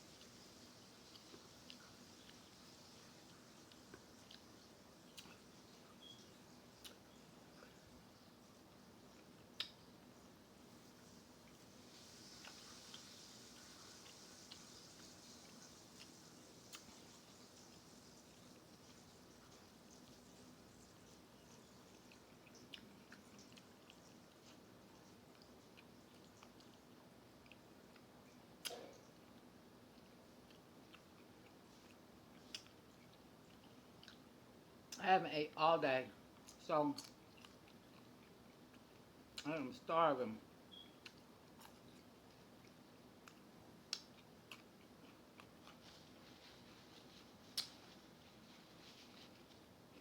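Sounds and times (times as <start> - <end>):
low steady hum: 0.0 - 50.0
person chewing: 0.1 - 7.9, 9.0 - 20.3, 21.0 - 35.0, 36.4 - 39.5, 40.8 - 50.0.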